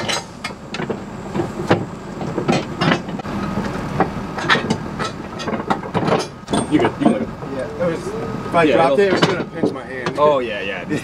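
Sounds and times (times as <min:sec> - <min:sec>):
metal hitch clanking and rattling: 0:00.0 - 0:11.0.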